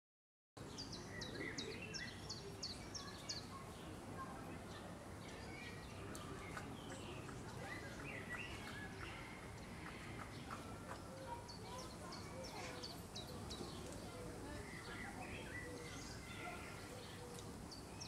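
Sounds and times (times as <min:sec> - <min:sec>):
outdoor background noise: 0:00.6 - 0:18.0
songbirds calling: 0:00.6 - 0:18.0.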